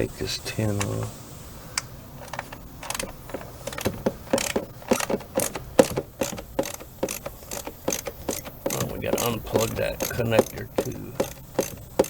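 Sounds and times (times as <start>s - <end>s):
socket ratchet clicking: 1.8s - 12.0s.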